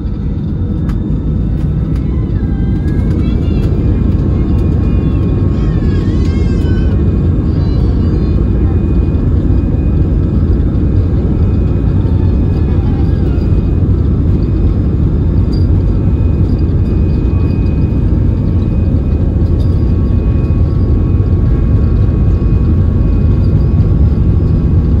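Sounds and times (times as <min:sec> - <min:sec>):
jet engines and rushing air: 0:00.0 - 0:25.0.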